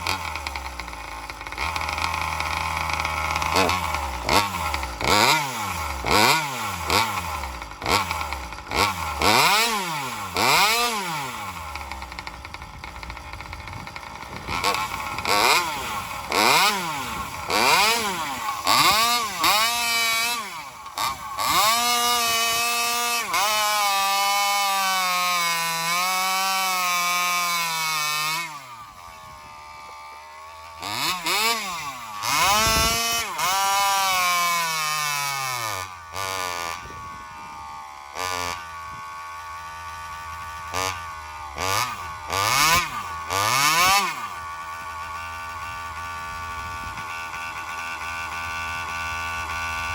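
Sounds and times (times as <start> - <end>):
chainsaw revving and idling: 0.0 - 49.9.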